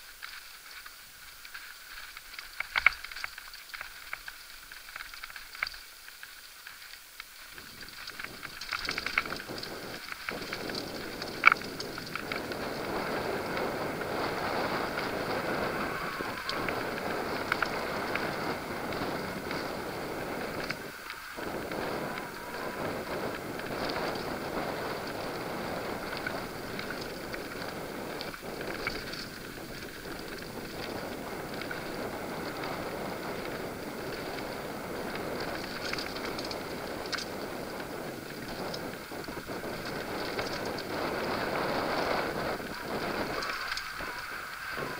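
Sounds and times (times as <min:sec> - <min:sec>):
bike rattling and clicking: 0:00.0 - 0:44.9
tyres rolling over dirt and stones: 0:00.1 - 0:44.9
wind on microphone: 0:07.5 - 0:44.9.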